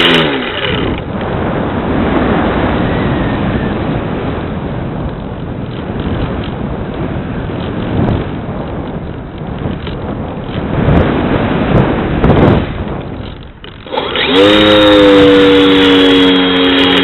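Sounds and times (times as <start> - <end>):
electric motor and propeller whine: 0.0 - 9.0, 9.8 - 17.0
wind rushing over microphone: 0.0 - 17.0.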